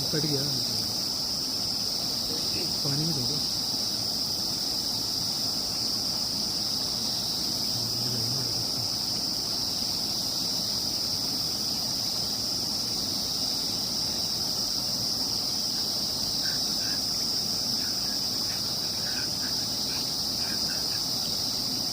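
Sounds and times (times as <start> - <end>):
insect chorus drone: 0.0 - 21.9.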